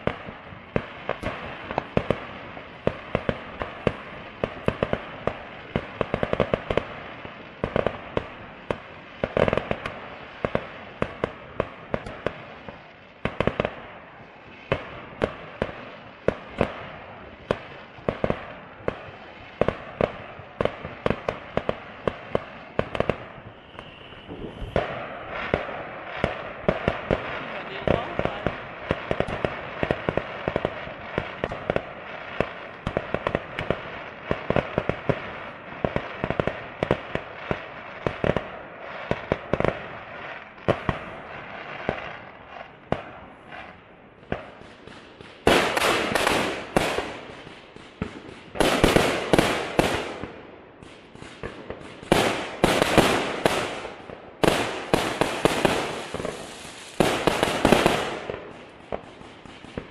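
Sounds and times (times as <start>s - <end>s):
firework bangs: 0.0s - 59.9s
fireworks rushing: 0.0s - 59.9s.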